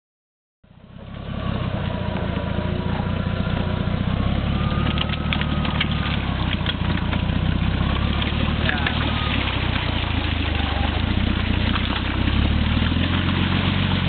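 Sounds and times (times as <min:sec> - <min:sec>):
engine running at low revs: 0:00.6 - 0:14.0.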